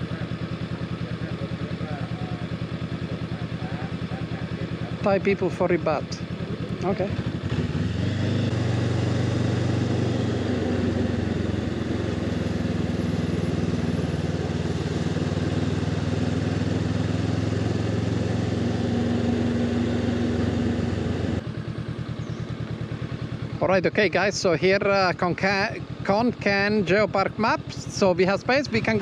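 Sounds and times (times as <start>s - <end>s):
motorcycle engine pulling away: 0.0s - 29.0s.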